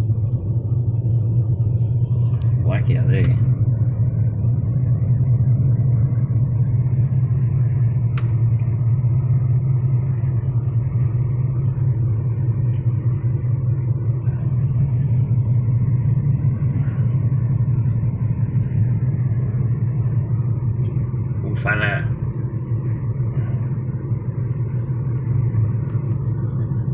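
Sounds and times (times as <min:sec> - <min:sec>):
car engine and tyres drone: 0:00.0 - 0:26.9.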